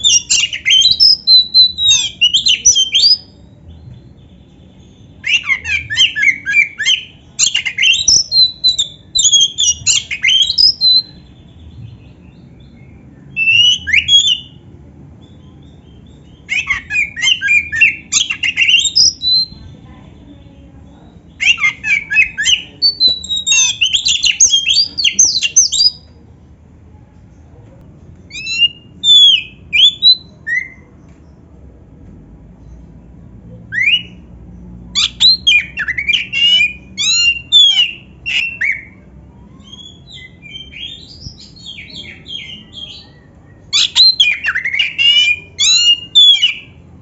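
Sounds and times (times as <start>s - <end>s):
magpie-robin singing: 0.0s - 26.2s, 28.2s - 31.4s, 32.6s - 47.0s
low background noise: 0.0s - 47.0s.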